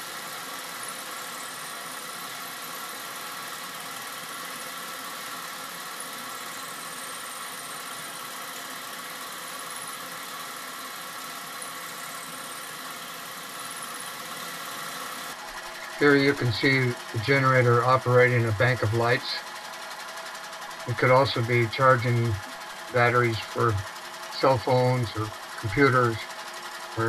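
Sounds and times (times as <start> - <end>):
steam engine running: 0.0 - 27.0.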